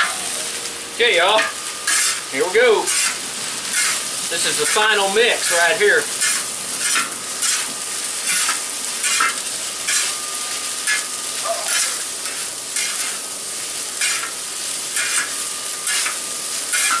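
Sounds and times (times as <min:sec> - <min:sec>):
frying hiss: 0:00.0 - 0:17.0
spatula scraping wok: 0:01.3 - 0:17.0.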